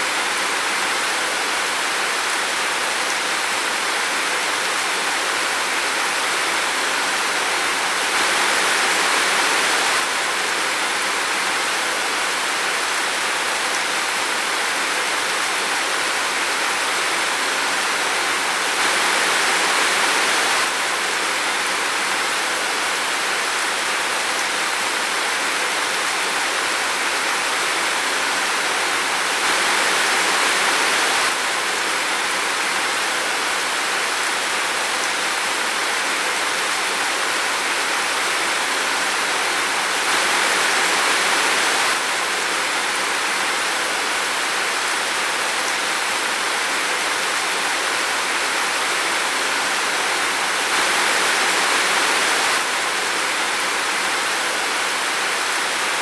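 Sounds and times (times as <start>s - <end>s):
steady rain in a forest: 0.0s - 56.0s.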